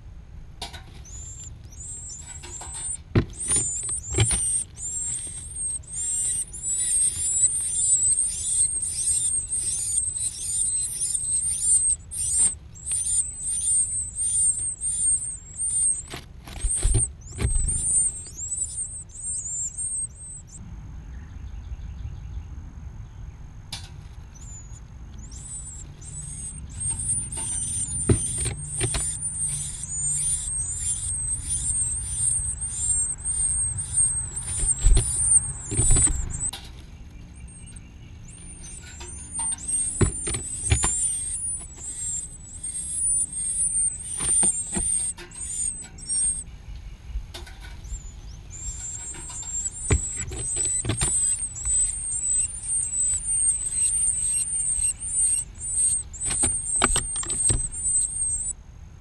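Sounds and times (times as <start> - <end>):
nestling birds cheeping: 0.0 - 59.0.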